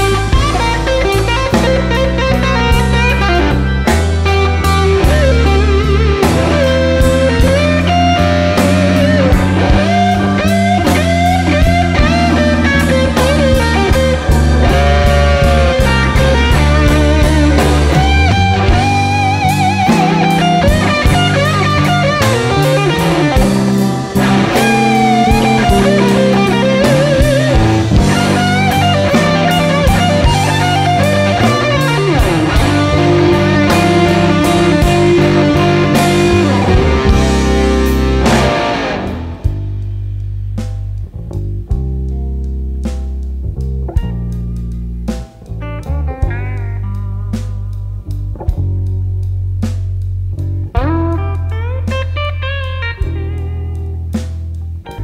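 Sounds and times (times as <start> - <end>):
blues-rock music: 0.0 - 55.0.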